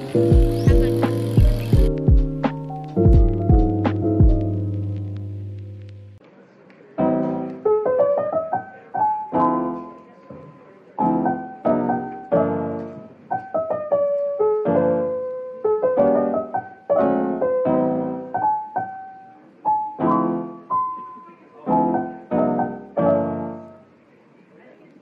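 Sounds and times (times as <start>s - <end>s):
gentle piano melody: 0.0s - 6.2s, 6.8s - 24.0s.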